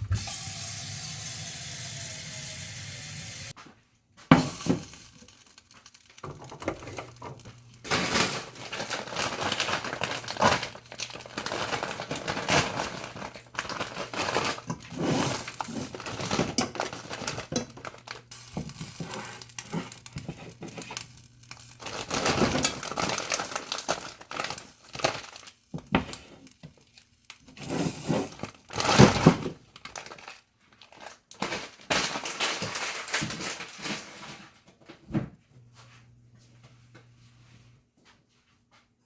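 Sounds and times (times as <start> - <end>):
crinkling and rustling: 3.6 - 38.5.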